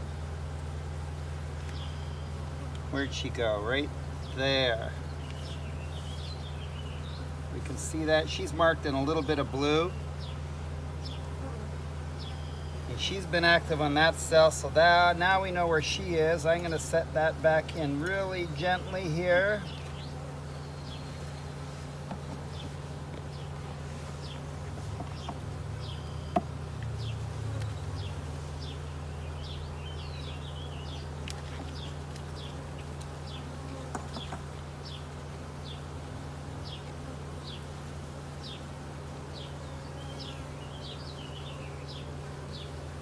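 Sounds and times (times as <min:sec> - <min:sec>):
honey bees buzzing: 0:00.0 - 0:43.0.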